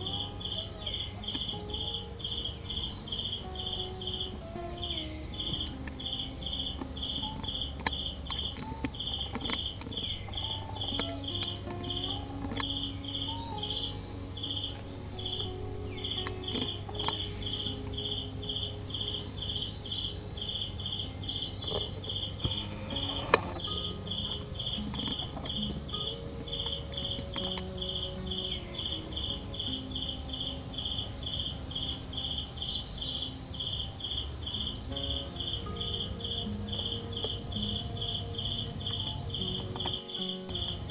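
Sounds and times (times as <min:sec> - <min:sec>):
continuous high insect buzz: 0:00.0 - 0:40.9
cricket chirping: 0:00.0 - 0:40.9.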